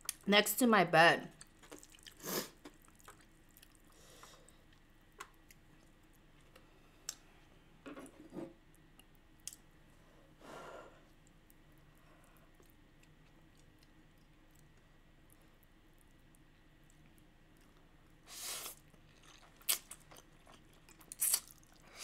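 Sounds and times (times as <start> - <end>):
soft chewing: 1.3 - 10.0, 11.0 - 22.0.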